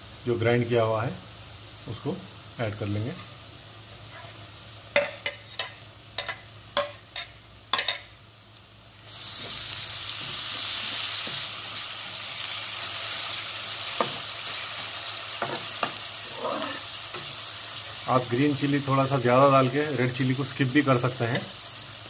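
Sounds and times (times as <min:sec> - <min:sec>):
paste sizzling in hot oil: 0:00.0 - 0:22.0.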